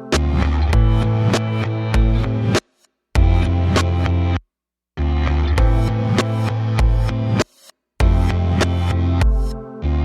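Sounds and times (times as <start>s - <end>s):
music with heavy beat: 0.0s - 4.3s, 5.6s - 10.0s.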